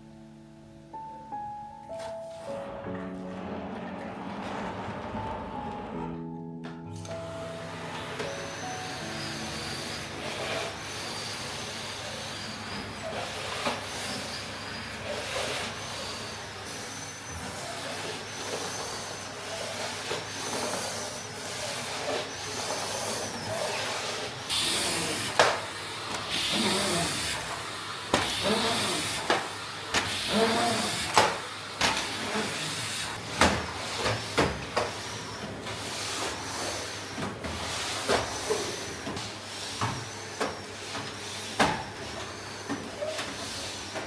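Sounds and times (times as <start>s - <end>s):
floor cleaner swishing: 1.9s - 6.2s, 6.9s - 44.0s.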